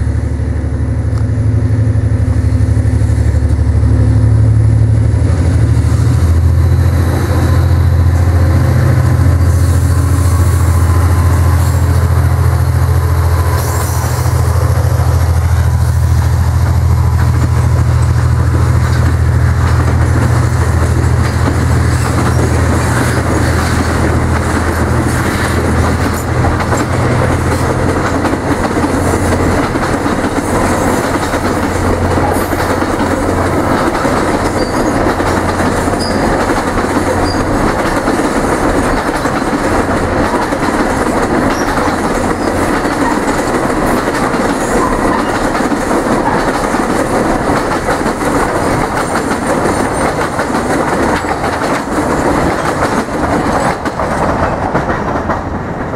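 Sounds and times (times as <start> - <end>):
diesel locomotive drone: 0.0 - 55.9
train wheels on rails: 0.0 - 55.9.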